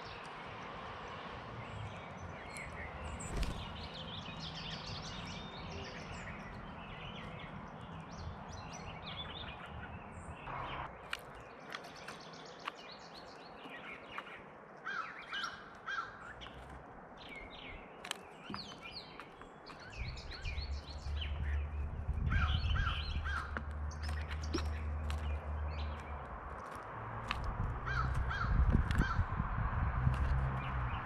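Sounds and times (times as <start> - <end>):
birds chirping and calling: 1.7 - 31.0.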